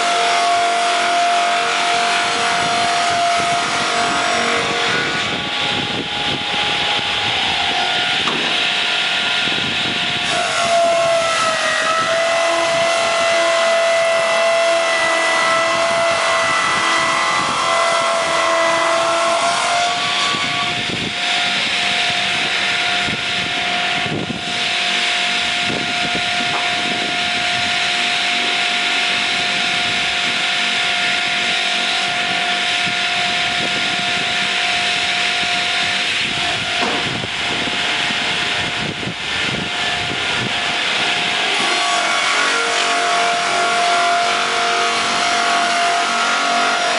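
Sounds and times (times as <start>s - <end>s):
circular saw whining through log: 0.0s - 46.9s.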